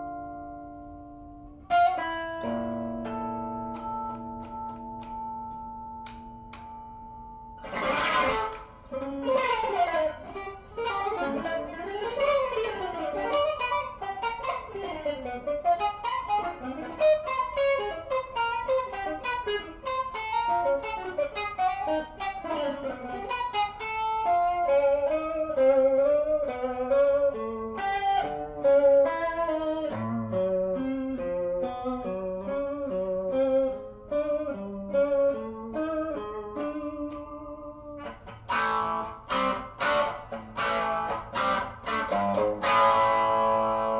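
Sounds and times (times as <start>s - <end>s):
electric guitar playing: 0.0s - 43.9s.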